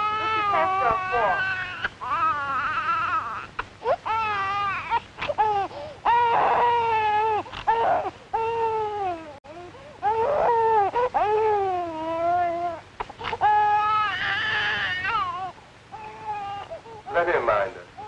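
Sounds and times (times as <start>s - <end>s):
baby crying: 0.0s - 17.2s.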